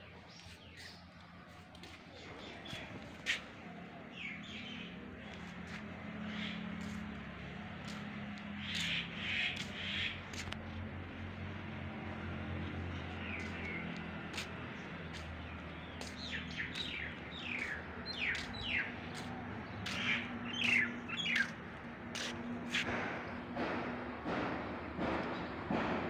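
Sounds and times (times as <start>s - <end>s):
birds chirping: 0.0s - 10.9s, 12.2s - 23.5s.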